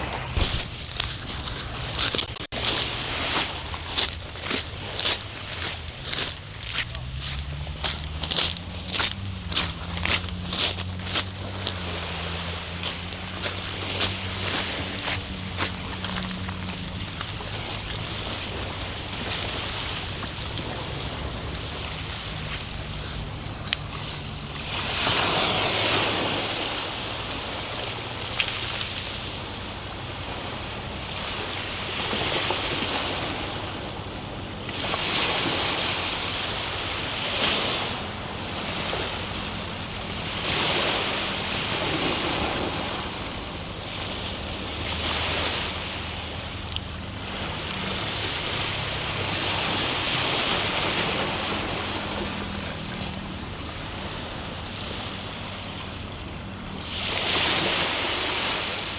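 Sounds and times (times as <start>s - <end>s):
waves breaking on shore: 0.0s - 58.9s.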